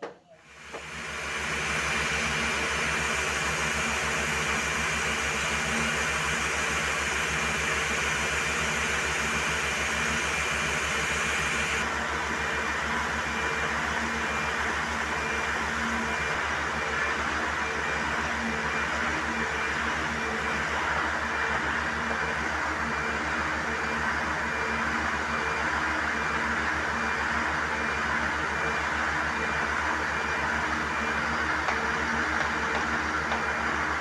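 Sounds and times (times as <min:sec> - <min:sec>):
air compressor running: 0:00.0 - 0:34.0.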